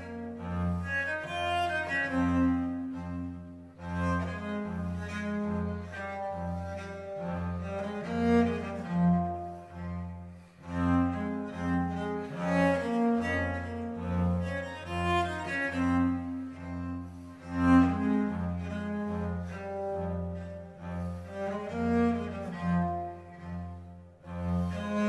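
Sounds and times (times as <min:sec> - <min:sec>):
slow bowed string notes: 0:00.0 - 0:25.0.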